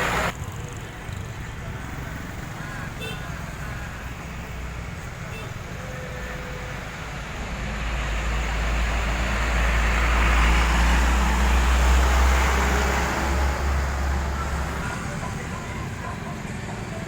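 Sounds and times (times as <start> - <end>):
heavy truck passing: 0.0 - 17.0.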